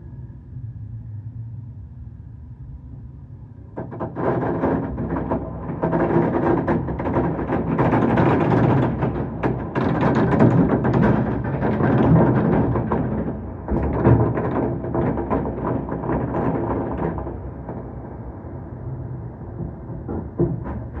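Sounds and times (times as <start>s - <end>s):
continuous rumble: 0.0s - 21.0s.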